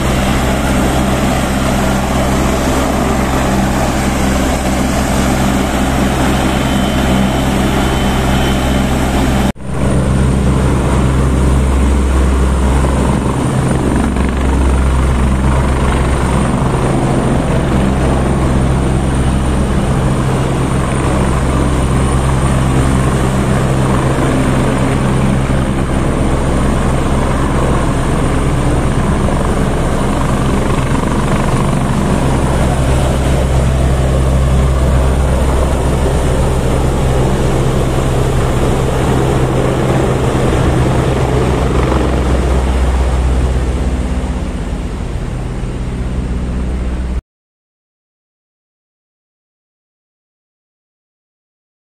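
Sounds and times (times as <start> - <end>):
helicopter rotor hum: 0.0 - 47.2
high thin turbine whine: 0.0 - 47.2.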